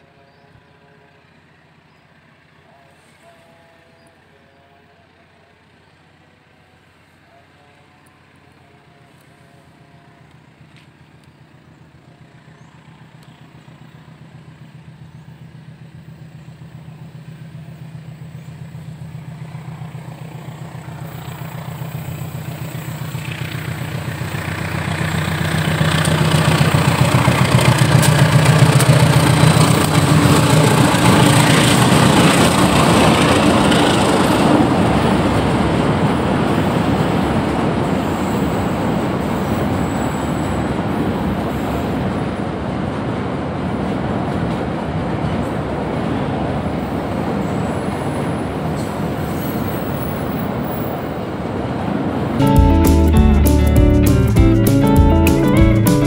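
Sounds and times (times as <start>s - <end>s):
diesel locomotive engine drone: 0.0s - 56.0s
train wheels on rails: 5.1s - 56.0s.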